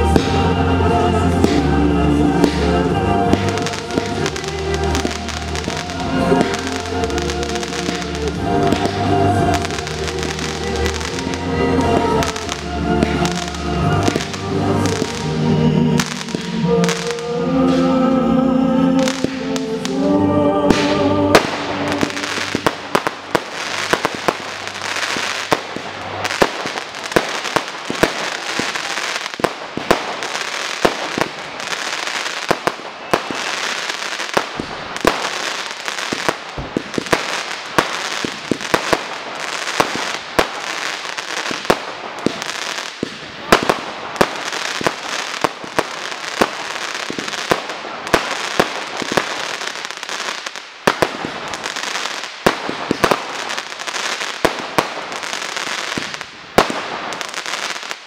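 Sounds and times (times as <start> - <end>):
fireworks bangs: 0.0 - 18.2, 18.8 - 58.0
fireworks crackling hiss: 0.0 - 58.0.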